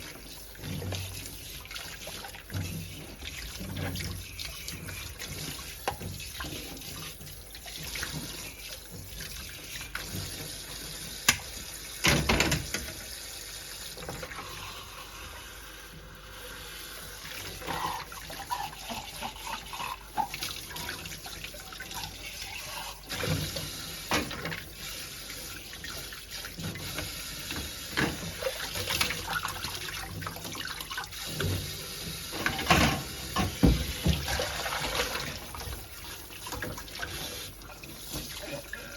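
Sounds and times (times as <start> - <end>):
water running and splashing: 0.0 - 38.9.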